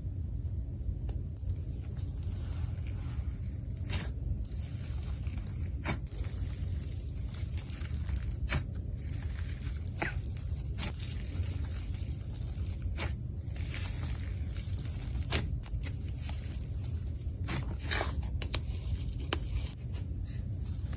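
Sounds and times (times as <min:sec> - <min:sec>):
slime pressed and stretched: 0:01.5 - 0:18.5.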